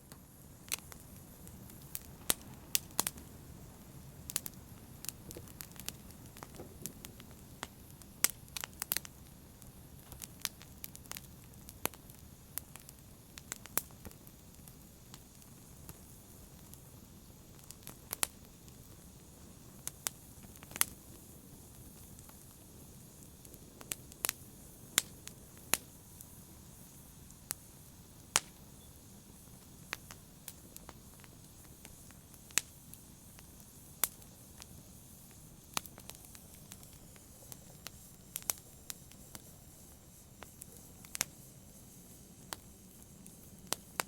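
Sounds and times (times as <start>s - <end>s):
low burning fire: 0.0s - 44.0s
wood fire crackling and popping: 0.0s - 44.0s.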